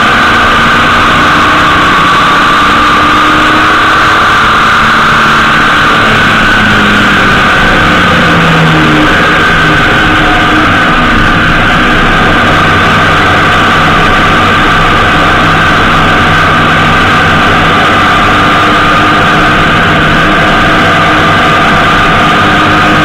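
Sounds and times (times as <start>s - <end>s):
motorcycle engine hum: 0.0s - 23.0s
road and wind noise: 0.0s - 23.0s.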